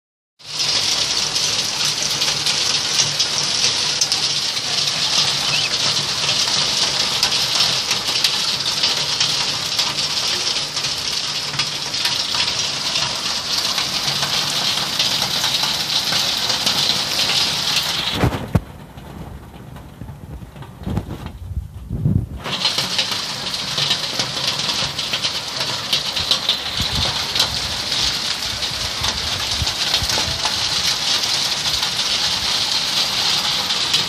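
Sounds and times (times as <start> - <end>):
heavy rain pouring: 0.4 - 34.0.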